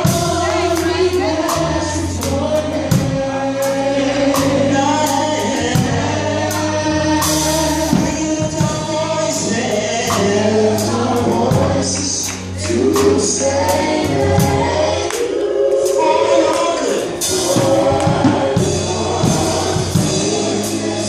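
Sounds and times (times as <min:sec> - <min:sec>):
bass notes: 0:00.0 - 0:21.0
drum and cymbal hits: 0:00.0 - 0:21.0
vocal group singing in harmony: 0:00.0 - 0:21.0.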